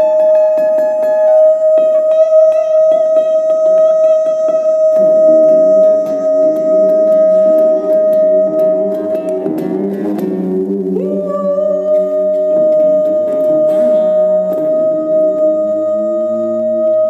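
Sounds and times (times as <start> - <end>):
electric guitar sustained tones: 0.0 - 17.0.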